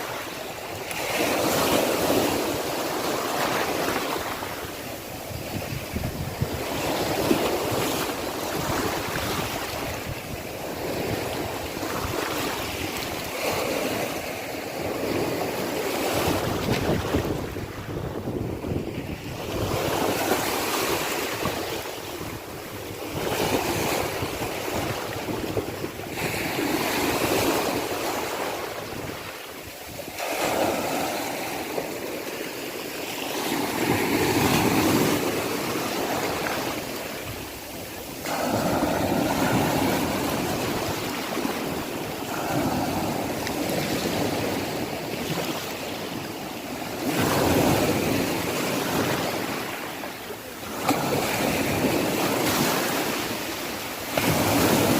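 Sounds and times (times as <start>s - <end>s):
wind noise on microphone: 0.0s - 32.0s, 33.4s - 49.9s
sea waves washing in and out: 0.0s - 54.9s.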